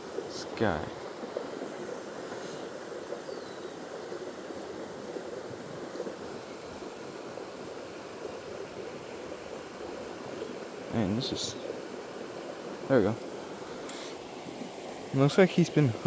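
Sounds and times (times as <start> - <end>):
creek water babbling: 0.0 - 16.0.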